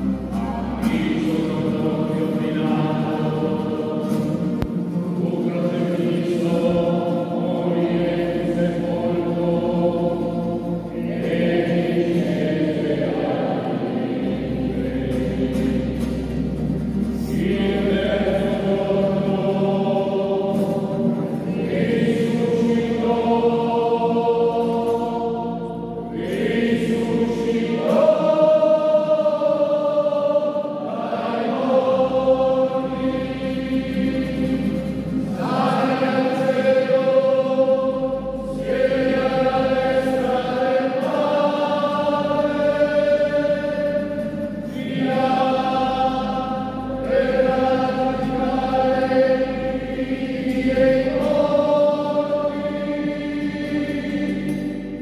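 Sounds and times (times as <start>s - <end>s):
choir singing a slow hymn: 0.0s - 55.0s.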